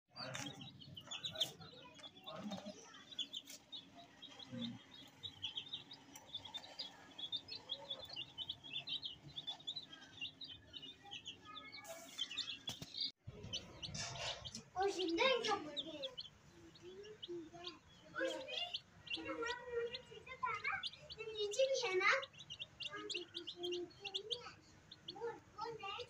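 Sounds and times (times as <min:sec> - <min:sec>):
chicks peeping: 0:00.1 - 0:26.0.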